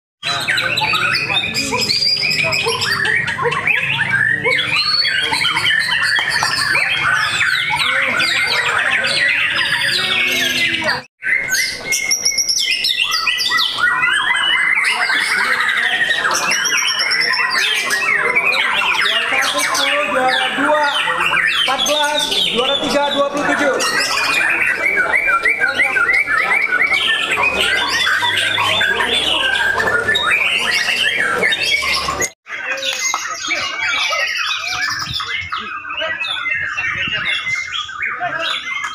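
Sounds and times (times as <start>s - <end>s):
bird singing whistles and chatter: 0.2s - 38.9s
other birdsong with high whistles: 0.2s - 38.9s.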